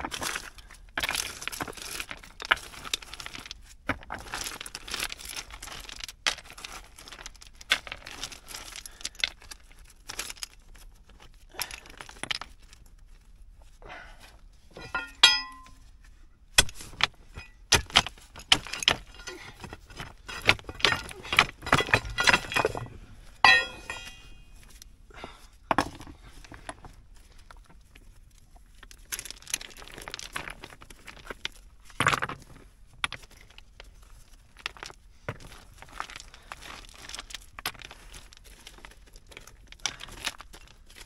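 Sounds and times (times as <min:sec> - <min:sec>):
stones clinking and clattering: 0:00.0 - 0:13.2, 0:14.7 - 0:16.0, 0:16.6 - 0:24.9, 0:25.7 - 0:41.0.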